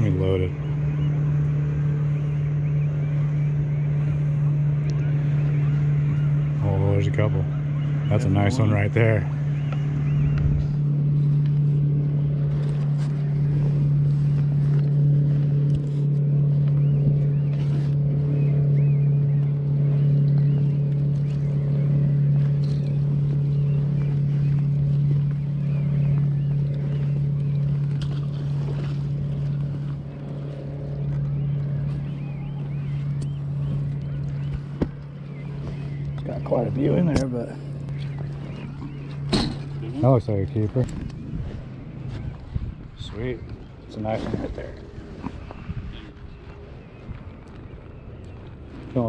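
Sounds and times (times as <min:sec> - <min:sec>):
low engine hum: 0:00.0 - 0:49.0.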